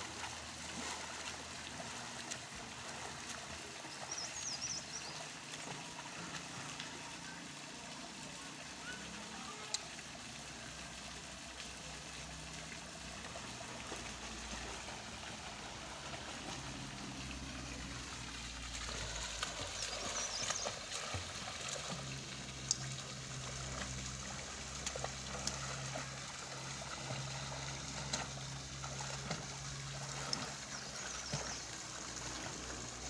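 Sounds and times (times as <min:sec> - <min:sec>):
faint clicks and splashes: 0:00.0 - 0:33.0
water trickling and flowing: 0:00.0 - 0:33.0.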